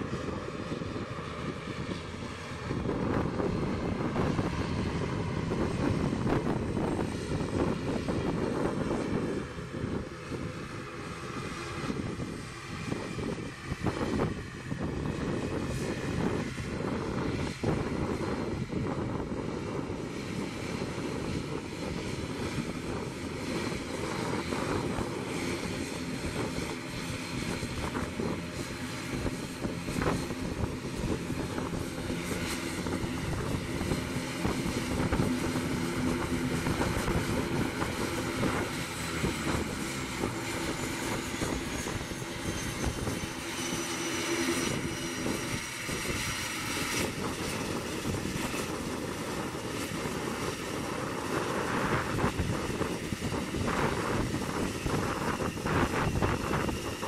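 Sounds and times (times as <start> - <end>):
turboprop engines drone and whine: 0.0 - 57.0.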